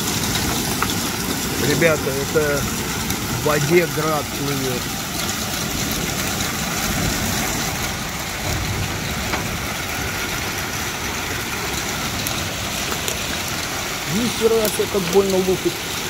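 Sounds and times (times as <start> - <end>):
hail clattering: 0.0 - 16.0
hailstones ticking close by: 0.0 - 16.0.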